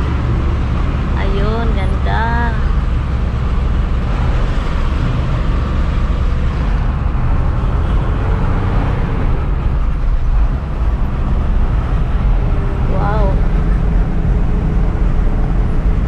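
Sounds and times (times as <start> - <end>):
road noise: 0.0 - 16.0
truck engine rumble: 0.0 - 16.0.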